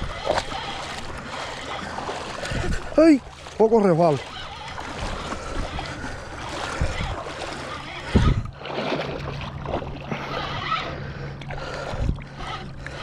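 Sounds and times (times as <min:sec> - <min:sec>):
low steady hum: 0:00.0 - 0:13.0
water splashing and sloshing: 0:00.0 - 0:13.0.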